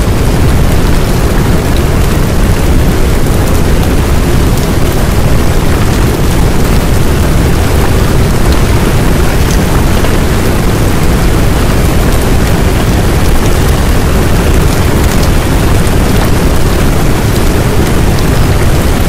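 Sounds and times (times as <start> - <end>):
steady rushing noise with rumble: 0.0 - 19.0.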